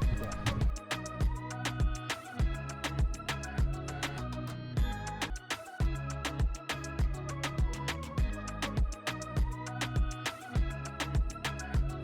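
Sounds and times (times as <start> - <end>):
music with drum beat: 0.0 - 4.2, 4.8 - 12.0.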